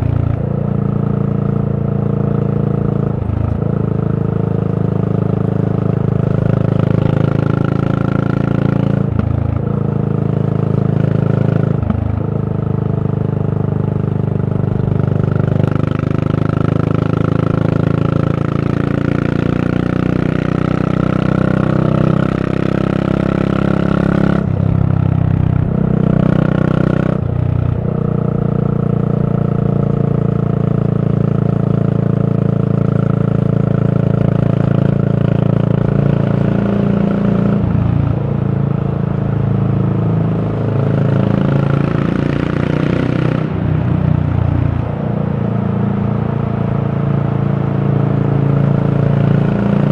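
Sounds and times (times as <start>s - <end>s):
motorcycle exhaust note: 0.0s - 49.9s.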